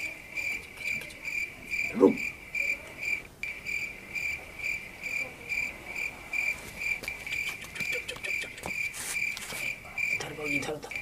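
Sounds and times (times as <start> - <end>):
cricket chirping: 0.1 - 11.0.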